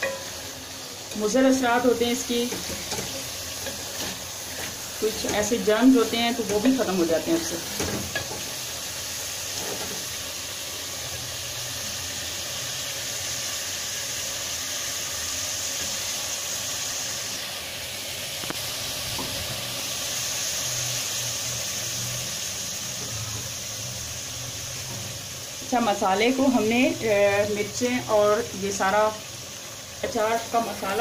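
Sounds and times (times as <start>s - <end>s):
meat frying in oil: 0.0s - 31.0s.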